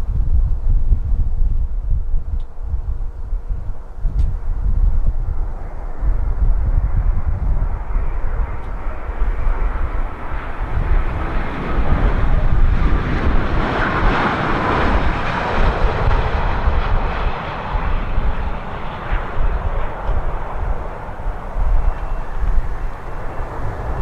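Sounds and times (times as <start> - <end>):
jet airliner engines: 0.0 - 24.0
wind rumble on microphone: 0.0 - 24.0.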